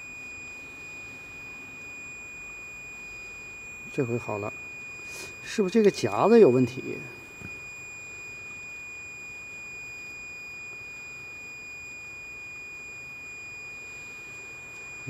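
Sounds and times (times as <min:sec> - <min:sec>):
multimeter continuity beep: 0:00.0 - 0:15.0.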